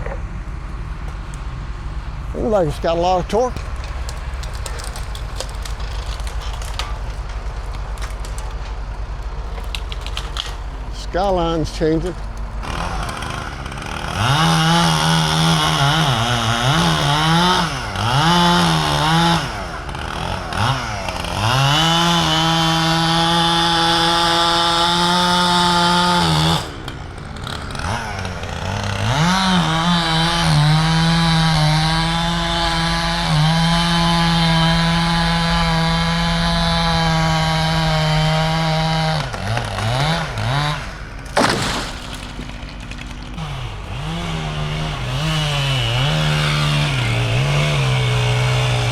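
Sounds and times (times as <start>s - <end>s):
chainsaw revving: 9.4s - 48.9s.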